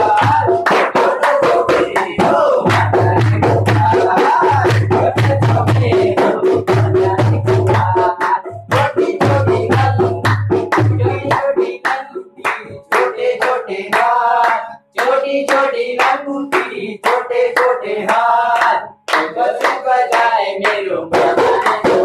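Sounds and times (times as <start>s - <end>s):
men singing devotional song: 0.0s - 22.0s
rhythmic hand claps: 0.0s - 22.0s.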